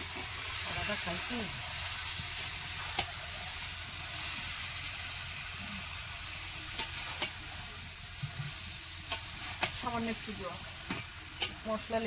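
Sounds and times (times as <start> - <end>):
spice paste sizzling in oil: 0.0 - 12.0.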